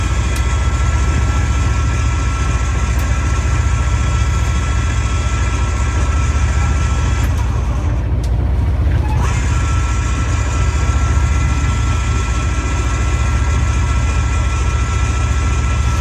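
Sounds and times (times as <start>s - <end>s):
boat engine throbbing: 0.0s - 16.0s.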